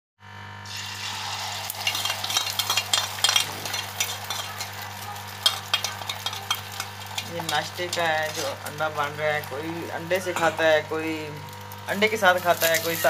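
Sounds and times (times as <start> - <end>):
egg sizzling on griddle: 0.6 - 13.0
oil spitting crackles: 0.7 - 13.0.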